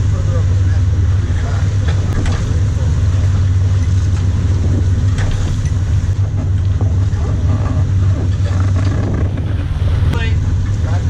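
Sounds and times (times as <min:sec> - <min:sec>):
boat engine droning: 0:00.0 - 0:11.0
water washing along hull: 0:00.0 - 0:11.0.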